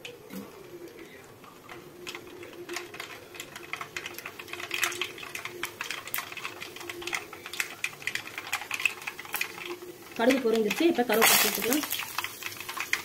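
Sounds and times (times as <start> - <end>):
mustard seeds popping in hot oil: 0.0 - 13.0.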